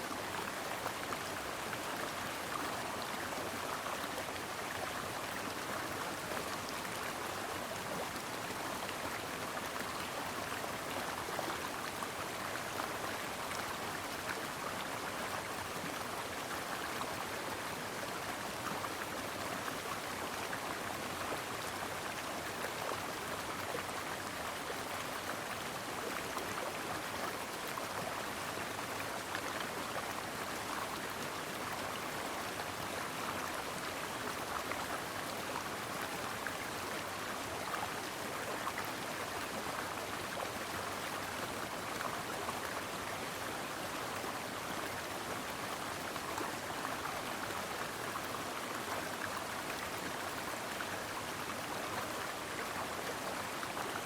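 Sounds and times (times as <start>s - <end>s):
brook flowing over rocks: 0.0s - 54.0s.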